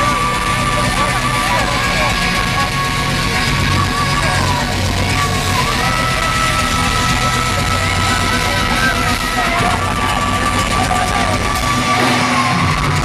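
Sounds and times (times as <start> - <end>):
crowd shouting: 0.0 - 13.0
live metal concert: 0.0 - 13.0.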